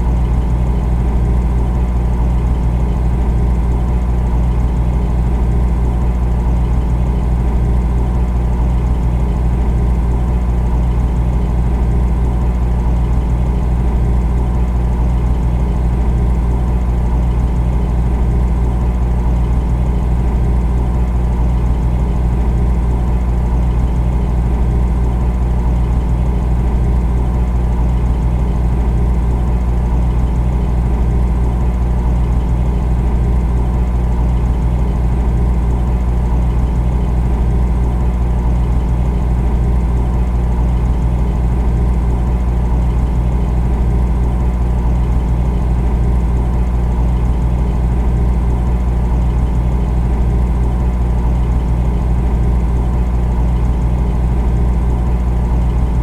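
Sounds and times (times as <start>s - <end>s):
refrigerator compressor humming: 0.0s - 56.0s.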